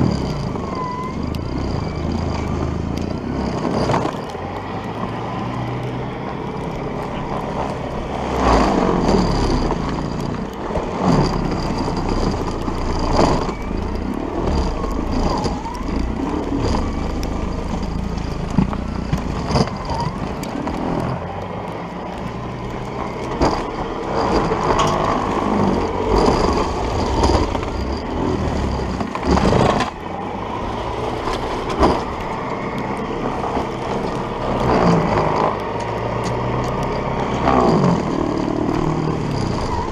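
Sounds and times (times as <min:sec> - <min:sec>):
snowblower churning through snow: 0:00.0 - 0:39.9.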